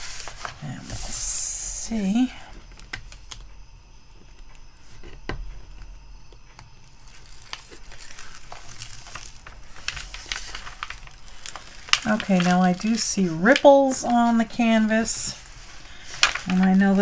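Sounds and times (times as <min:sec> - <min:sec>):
paper crinkling and rustling: 0:00.0 - 0:03.5, 0:06.5 - 0:17.0.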